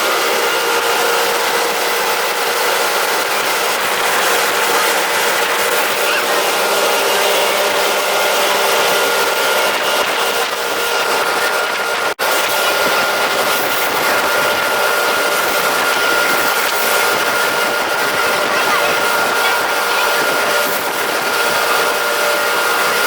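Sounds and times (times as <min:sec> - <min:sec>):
high engine whine: 0:00.0 - 0:23.0
motorboat rushing noise: 0:00.0 - 0:23.0.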